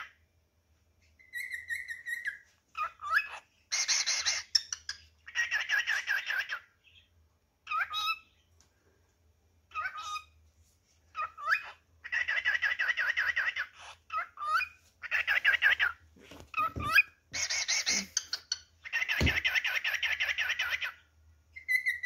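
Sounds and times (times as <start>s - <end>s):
cockatiel whistling and warbling: 1.1s - 7.0s, 7.7s - 8.3s, 9.7s - 10.4s, 11.1s - 22.0s.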